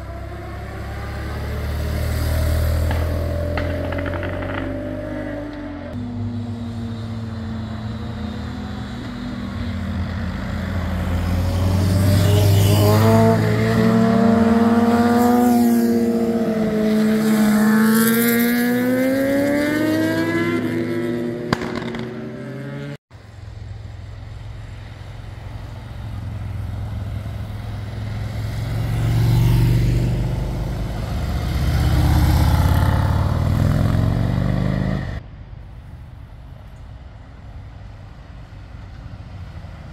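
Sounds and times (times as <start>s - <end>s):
lower-pitched motorcycle engines: 0.0s - 35.2s
motorcycles passing: 0.0s - 35.2s.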